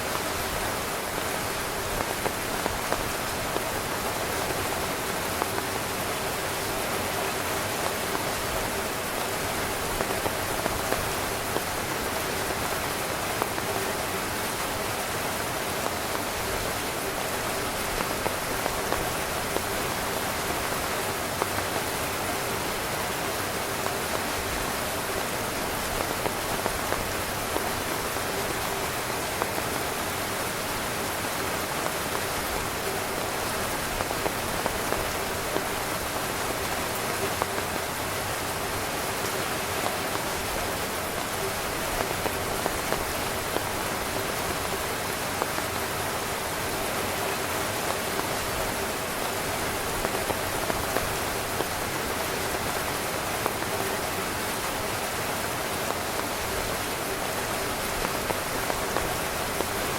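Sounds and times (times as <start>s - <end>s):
rain on a tent: 0.0s - 59.9s.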